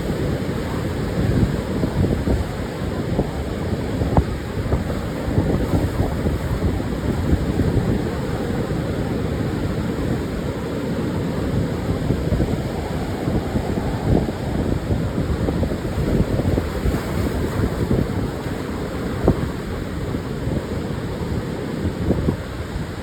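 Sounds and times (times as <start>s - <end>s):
surf washing on beach: 0.0s - 23.0s
wind buffeting microphone: 0.0s - 23.0s.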